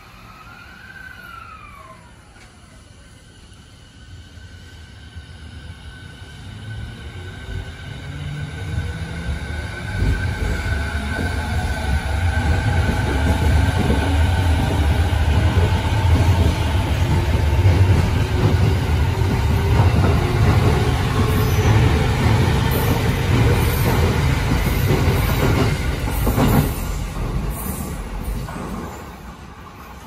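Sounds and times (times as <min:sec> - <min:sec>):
train wheels rumbling on rails: 0:03.6 - 0:30.0.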